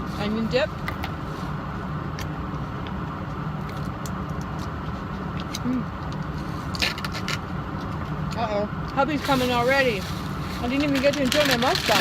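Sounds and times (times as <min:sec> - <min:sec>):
low rumble in truck cabin: 0:00.0 - 0:12.0.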